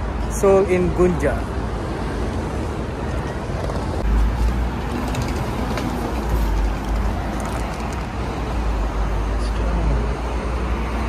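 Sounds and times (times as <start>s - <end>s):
passing road vehicles: 0.0s - 11.0s.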